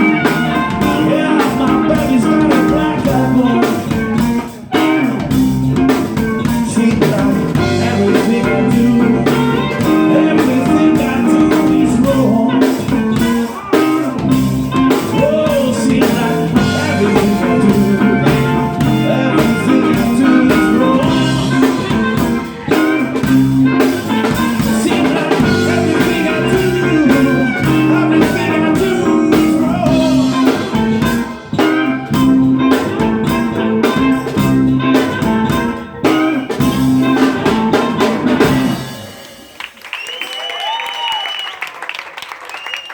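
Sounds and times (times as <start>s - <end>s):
blues band playing live: 0.0s - 40.8s.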